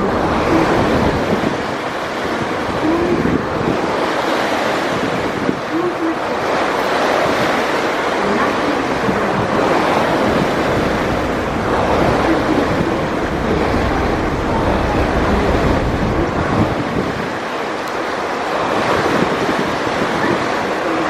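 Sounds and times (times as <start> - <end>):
river water rushing: 0.0 - 21.0
wind buffeting microphone: 0.0 - 21.0.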